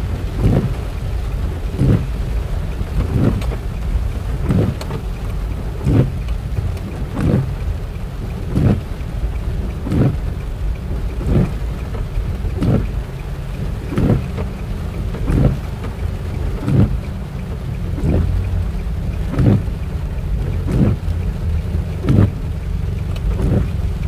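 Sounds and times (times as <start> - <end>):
car driving on wet road: 0.0 - 24.0
heavy rain on a car: 0.0 - 24.0
windscreen wipers sweeping: 0.0 - 24.0.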